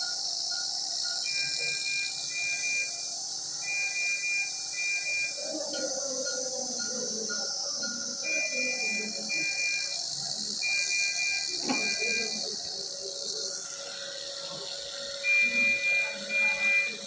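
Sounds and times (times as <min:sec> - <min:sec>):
high electronic beeps: 0:01.2 - 0:03.0, 0:03.6 - 0:17.0.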